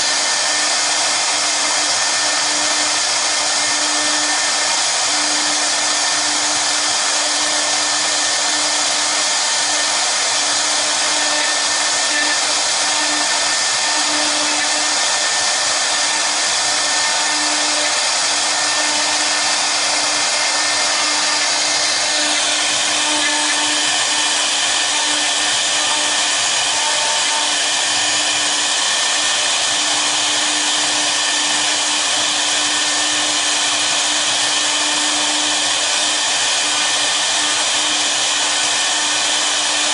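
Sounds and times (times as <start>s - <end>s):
router spindles whirring: 0.0s - 39.9s.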